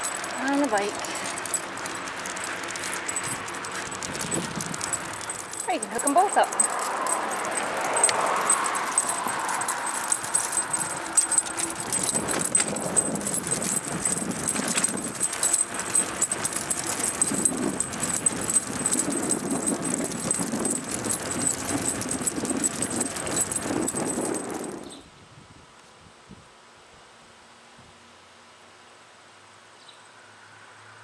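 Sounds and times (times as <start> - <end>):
paws pattering: 0.0 - 24.9
harness rings jingling: 0.0 - 25.1.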